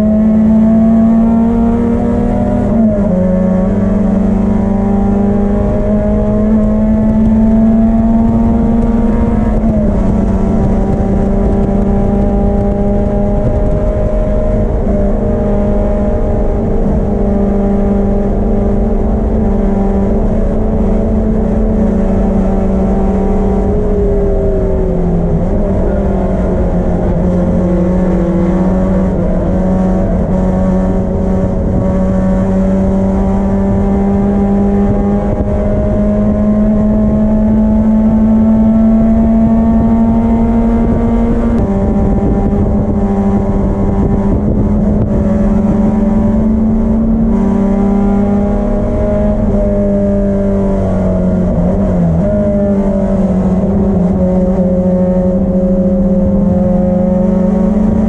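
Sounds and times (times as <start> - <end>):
race engine revving hard: 0.0 - 58.0.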